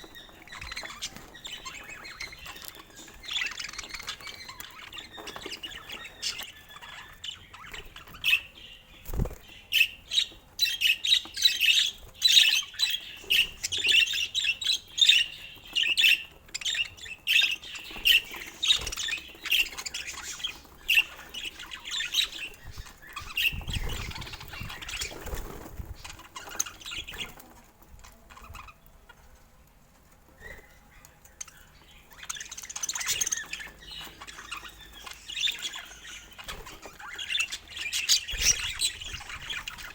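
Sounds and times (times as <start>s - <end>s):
budgerigar chirping and chattering: 0.0s - 8.8s, 9.5s - 25.2s, 31.5s - 39.9s.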